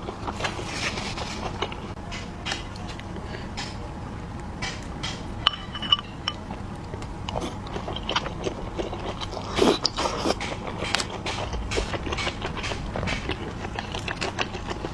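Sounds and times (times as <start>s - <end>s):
biting and chewing: 0.0s - 3.8s, 6.0s - 14.9s.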